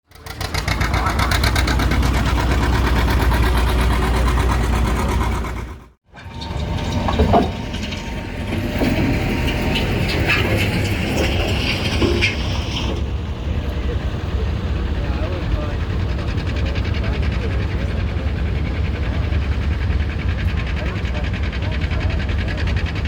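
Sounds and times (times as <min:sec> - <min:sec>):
tractor diesel engine putting: 0:00.1 - 0:23.0
voices: 0:00.1 - 0:23.0.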